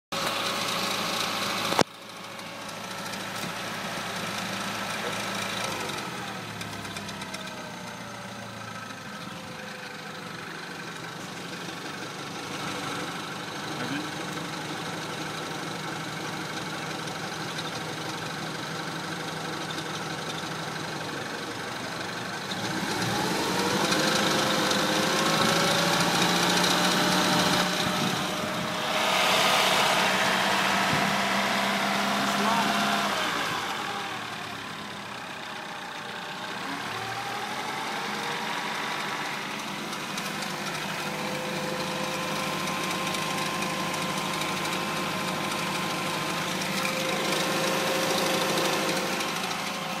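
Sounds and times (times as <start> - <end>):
car engine running: 0.1 - 50.0.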